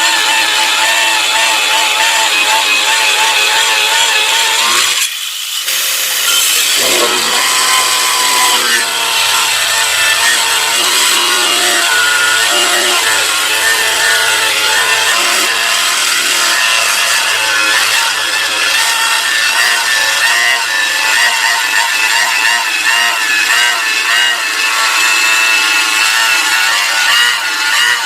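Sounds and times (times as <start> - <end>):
electric saw cutting plywood: 0.0 - 28.0.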